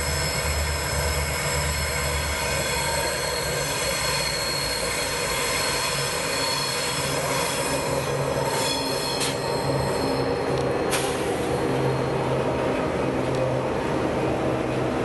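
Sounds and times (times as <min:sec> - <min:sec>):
train wheels squealing: 0:00.0 - 0:12.7
low hum of locomotive engines: 0:00.0 - 0:15.0.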